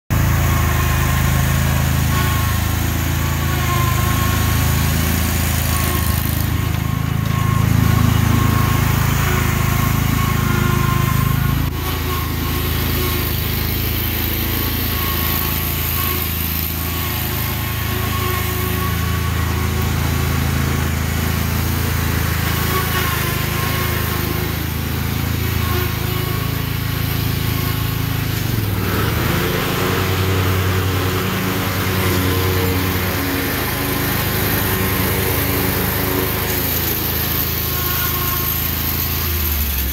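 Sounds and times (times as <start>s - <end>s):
riding mower engine running: 0.1s - 39.9s.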